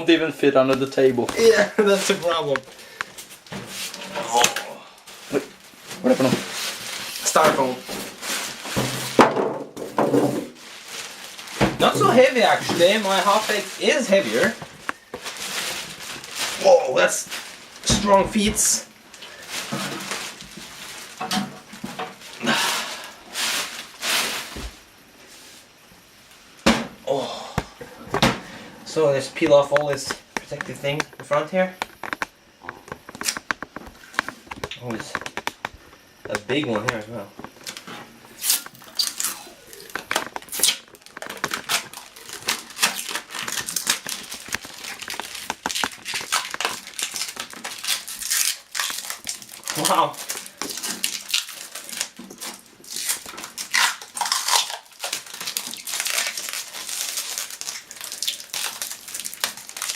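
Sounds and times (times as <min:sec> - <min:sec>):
plastic film crinkling: 0:00.0 - 0:09.2, 0:09.8 - 0:24.9, 0:28.9 - 0:59.9
packaging rustling and scraping: 0:00.9 - 0:09.2, 0:09.8 - 0:25.8, 0:27.9 - 0:59.9.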